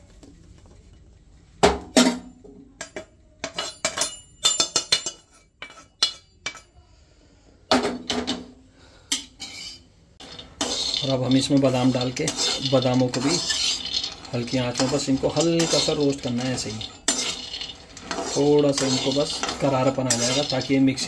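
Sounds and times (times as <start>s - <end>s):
metal utensils clinking and knocking: 1.8s - 6.8s, 9.1s - 21.0s.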